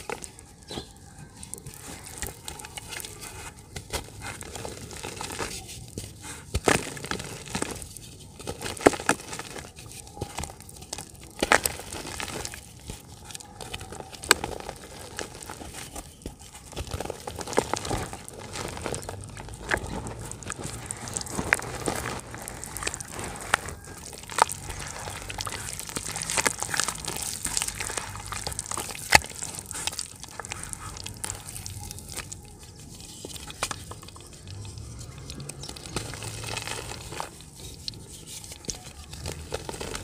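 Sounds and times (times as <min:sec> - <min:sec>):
crumbs falling into water: 0:00.0 - 0:37.9
dirt snapping: 0:00.0 - 0:40.0
dry dirt crunching and crackling: 0:00.0 - 0:40.0.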